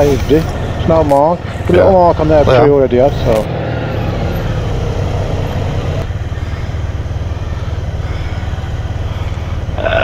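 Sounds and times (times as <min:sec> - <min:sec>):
road noise: 0:00.0 - 0:10.0
motorcycle engine running: 0:00.5 - 0:10.0.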